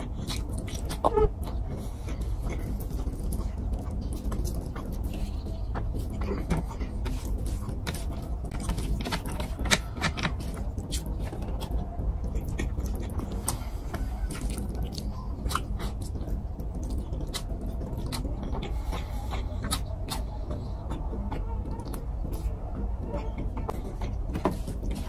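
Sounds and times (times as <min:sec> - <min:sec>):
chewing with wet mouth clicks: 0:00.0 - 0:25.0
fingers squishing food: 0:00.0 - 0:25.0.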